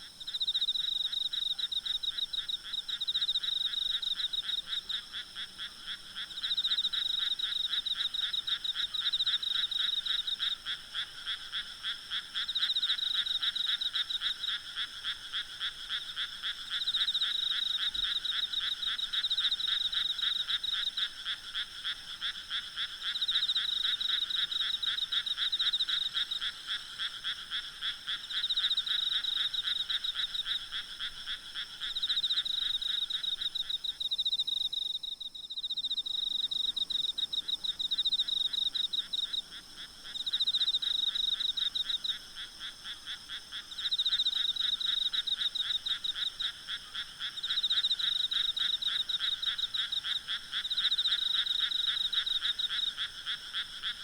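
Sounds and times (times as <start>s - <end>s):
frogs calling in trills: 0.0s - 54.0s.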